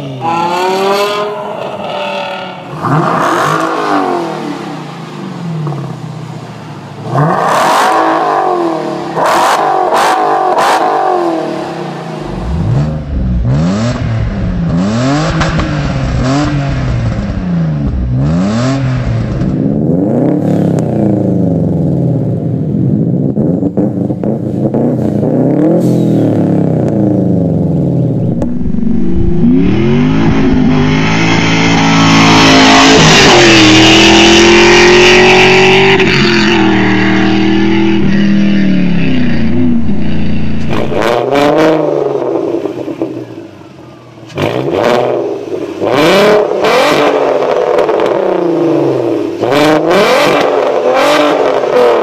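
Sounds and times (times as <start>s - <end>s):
car exhaust revving: 0.0s - 43.2s, 44.4s - 52.0s.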